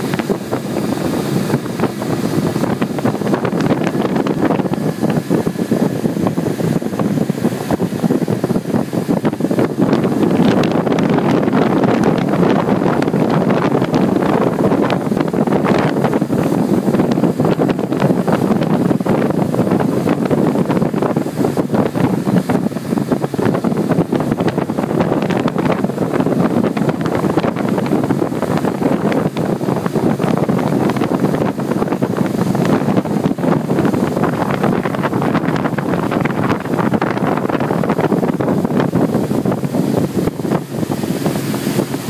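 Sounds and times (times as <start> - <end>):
boat engine: 0.0 - 42.0
churning boat wake: 0.0 - 42.0
wind buffeting microphone: 0.0 - 42.0.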